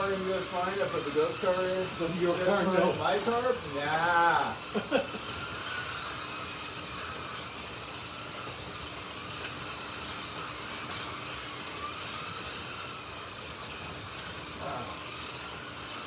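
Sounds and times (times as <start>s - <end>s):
slot car motors whining: 0.0s - 16.0s.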